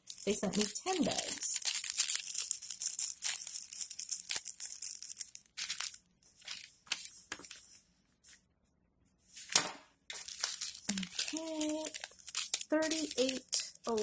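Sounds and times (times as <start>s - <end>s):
cellophane bags crinkling: 0.0s - 7.4s, 10.1s - 14.0s.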